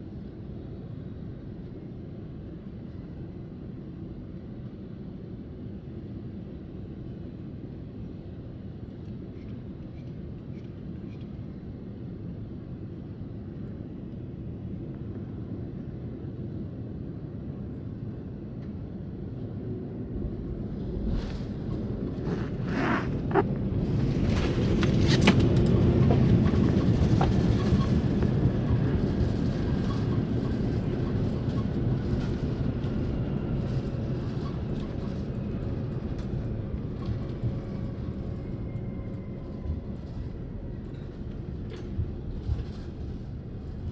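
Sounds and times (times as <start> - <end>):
jet engines and airflow rumble: 0.0 - 43.9.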